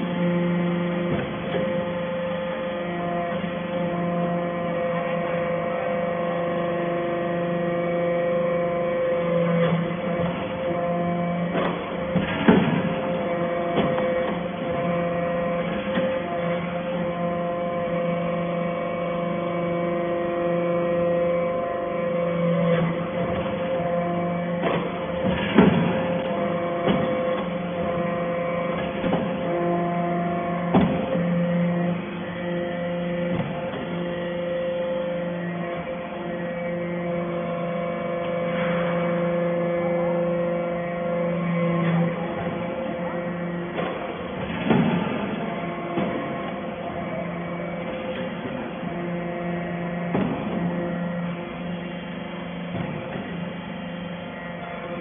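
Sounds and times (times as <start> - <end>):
motor and pump hum: 0.0 - 55.0.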